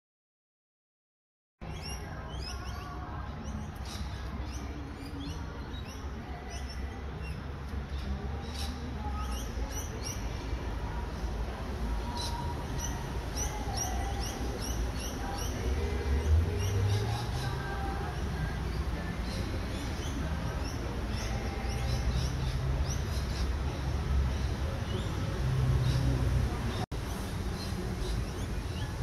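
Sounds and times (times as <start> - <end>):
small birds chirping: 1.6 - 29.0.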